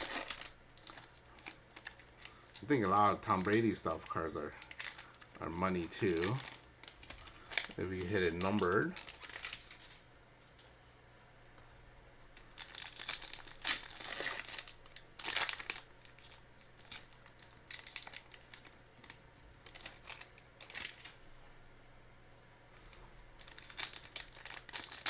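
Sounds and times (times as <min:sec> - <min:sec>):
foil packs rustling and crinkling: 0:00.0 - 0:10.1, 0:12.4 - 0:21.2, 0:22.8 - 0:25.0.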